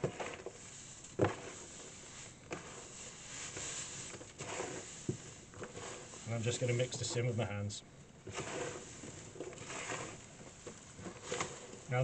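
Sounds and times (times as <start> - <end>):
hands stirring gritty soil: 0.0 - 12.0.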